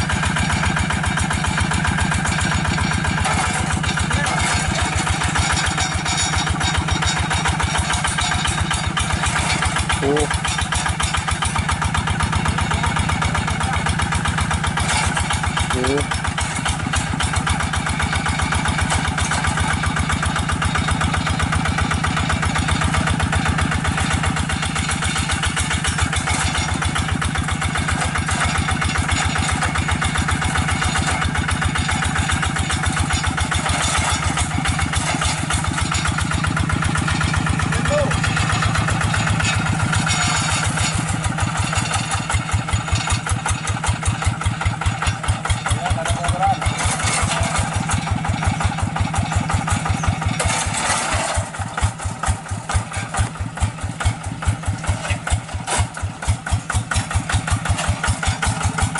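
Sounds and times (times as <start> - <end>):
diesel engine chugging: 0.0 - 58.9.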